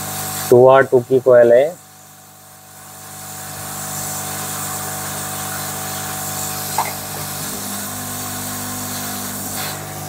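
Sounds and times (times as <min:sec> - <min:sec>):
hot-air station blowing: 0:00.0 - 0:10.0.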